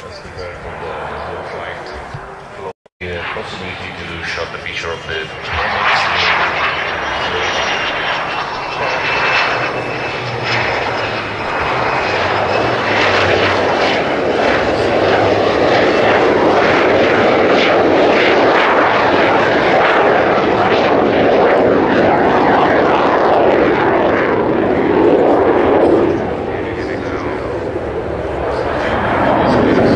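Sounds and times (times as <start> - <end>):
jet engine rushing: 0.0 - 29.9.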